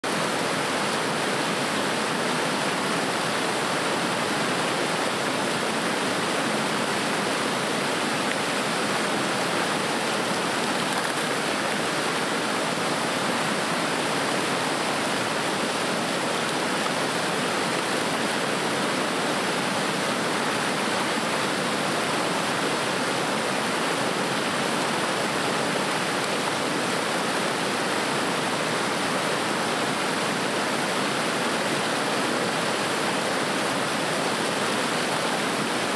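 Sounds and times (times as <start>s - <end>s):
whitewater rushing over rocks: 0.0s - 35.9s.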